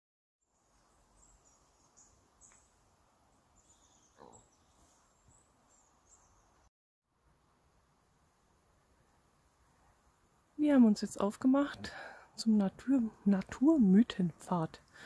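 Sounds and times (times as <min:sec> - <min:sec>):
quiet hiss: 0:00.5 - 0:15.0.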